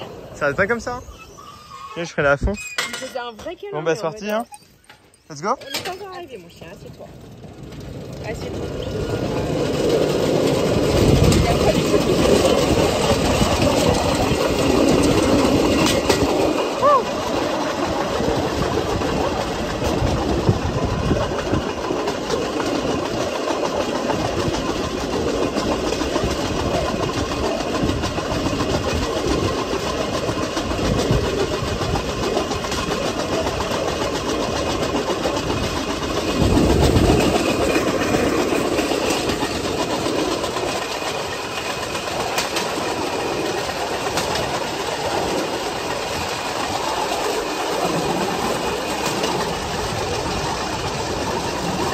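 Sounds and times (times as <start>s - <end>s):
steel wheels rolling on rails: 0.0s - 51.9s.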